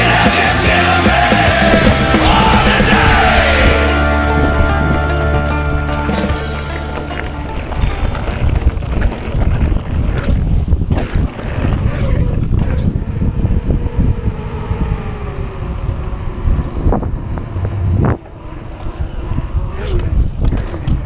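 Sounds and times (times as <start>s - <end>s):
bike tyres rolling: 0.0s - 21.0s
wind buffeting microphone: 1.3s - 21.0s.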